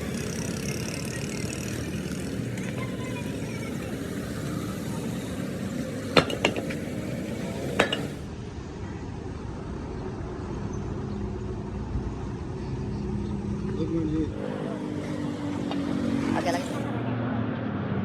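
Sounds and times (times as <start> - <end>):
passing motor vehicles rumbling: 0.0 - 8.6, 10.2 - 18.0.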